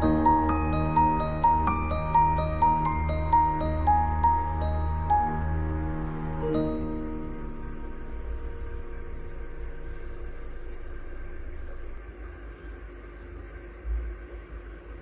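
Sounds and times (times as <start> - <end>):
low rumbling noise: 0.0 - 12.4.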